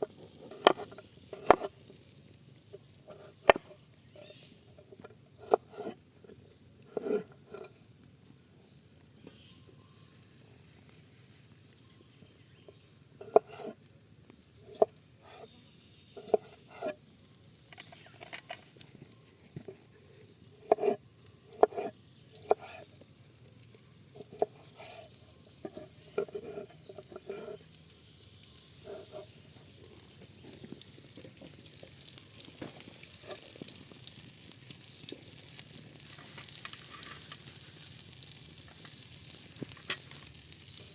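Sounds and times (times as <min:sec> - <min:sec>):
food sizzling in a hot pan: 0:00.0 - 0:40.9.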